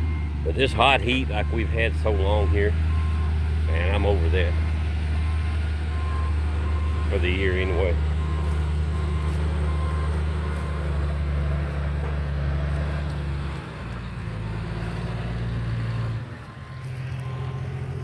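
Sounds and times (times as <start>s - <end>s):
heavy equipment engine running: 0.0s - 18.0s.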